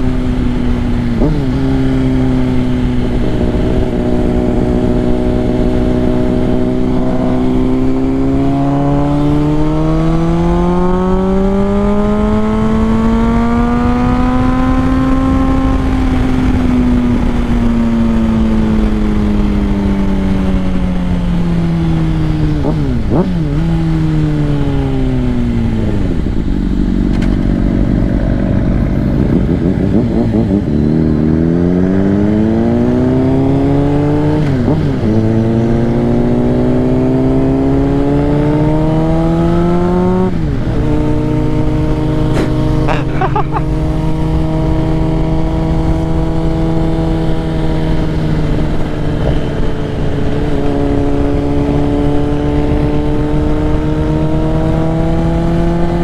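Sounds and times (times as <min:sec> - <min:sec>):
motorcycle engine shifting gears: 0:00.0 - 0:56.0.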